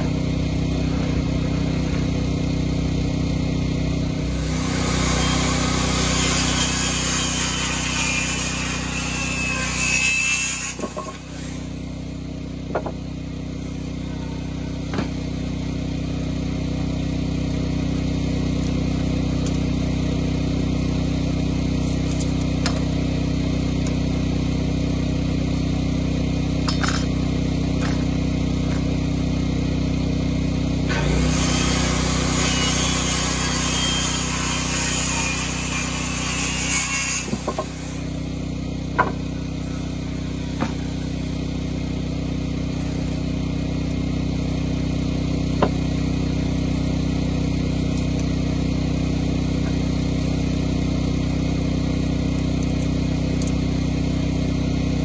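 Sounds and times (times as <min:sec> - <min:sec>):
generator engine running: 0:00.0 - 0:06.4, 0:10.8 - 0:32.4, 0:37.3 - 0:55.0.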